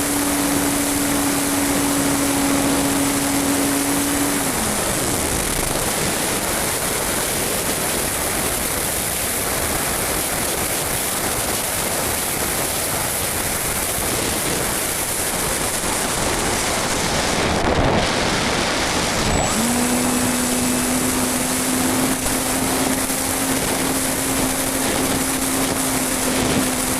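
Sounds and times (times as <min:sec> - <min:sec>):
model plane motor whine: 0:00.0 - 0:26.9
wind rushing on microphone: 0:00.0 - 0:26.9.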